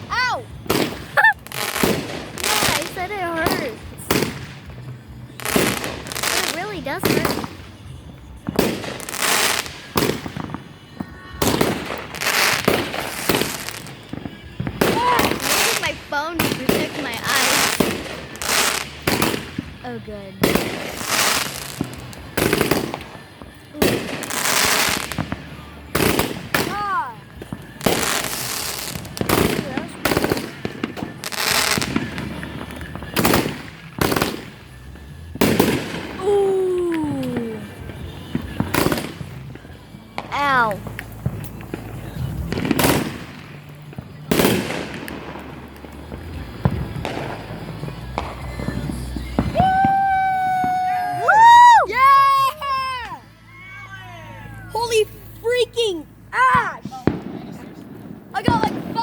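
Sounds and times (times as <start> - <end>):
fireworks bangs: 0.0 - 59.0
fireworks crackling hiss: 0.0 - 59.0.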